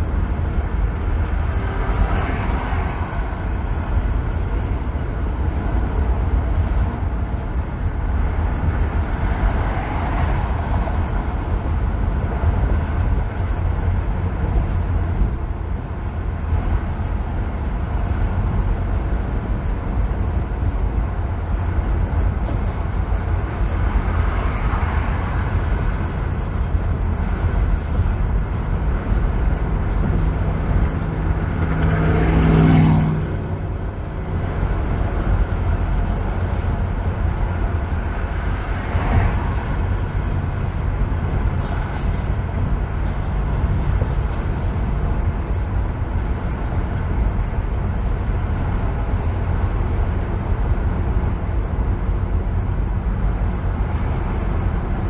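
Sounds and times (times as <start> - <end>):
car driving on freeway: 0.0 - 55.0.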